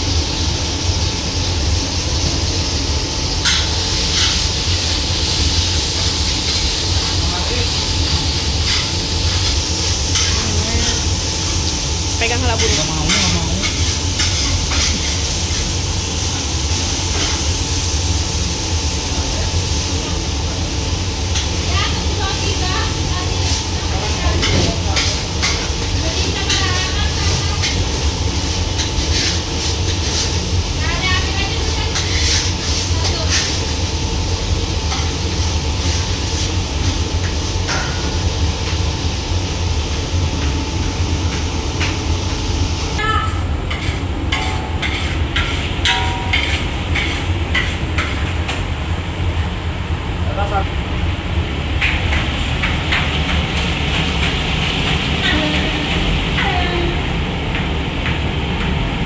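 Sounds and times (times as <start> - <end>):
cooking hiss and rumble: 0.0 - 59.0.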